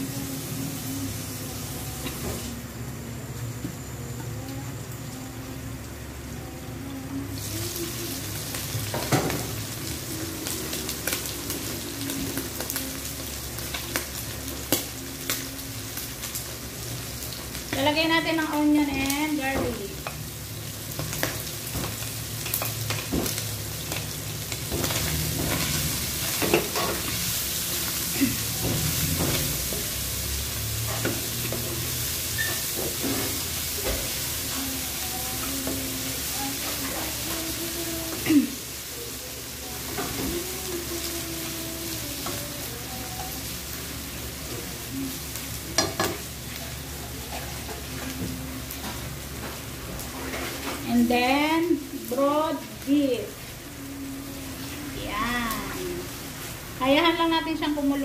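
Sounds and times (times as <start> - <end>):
meat sizzling in a frying pan: 7.3 - 58.0.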